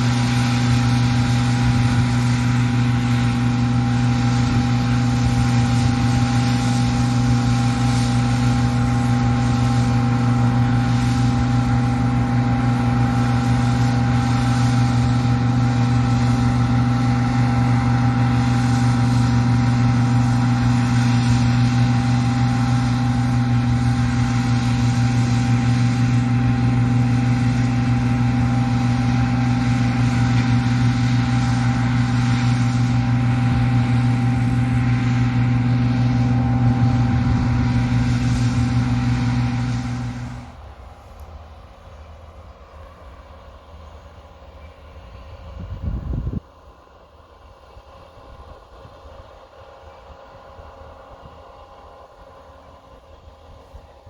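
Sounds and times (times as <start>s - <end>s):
combine harvester engine hum: 0.0s - 54.0s.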